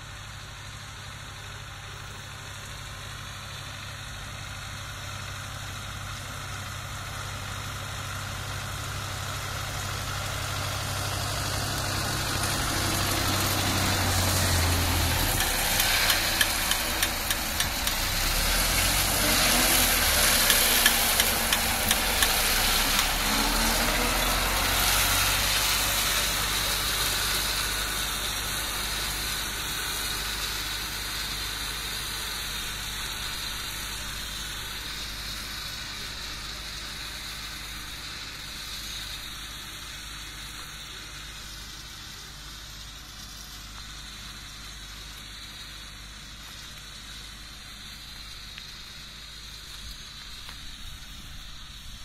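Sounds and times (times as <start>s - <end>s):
mower whirring: 0.0s - 52.0s
tractor engine hum: 0.0s - 52.0s.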